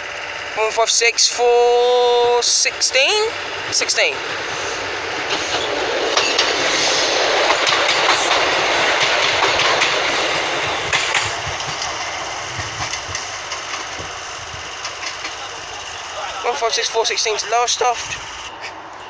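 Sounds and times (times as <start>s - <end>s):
diesel train engine: 0.0s - 19.0s
wheels clicking over rail joints: 0.0s - 19.0s.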